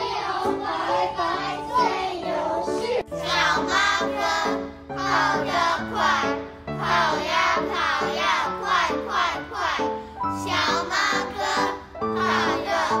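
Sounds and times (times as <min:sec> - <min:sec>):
children singing: 0:00.0 - 0:13.0.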